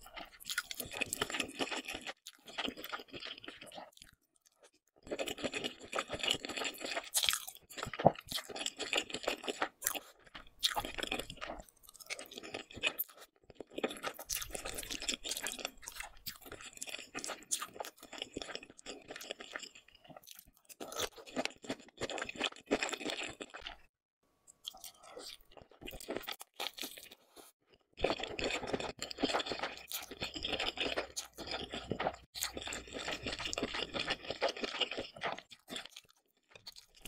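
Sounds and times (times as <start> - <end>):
chewing noodles: 0.0 - 23.9, 24.5 - 37.0.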